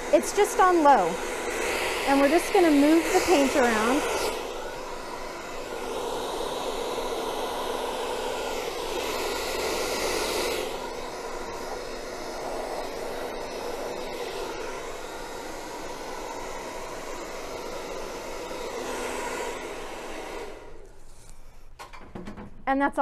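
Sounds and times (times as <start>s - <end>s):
hair dryer blowing air: 0.0s - 21.5s.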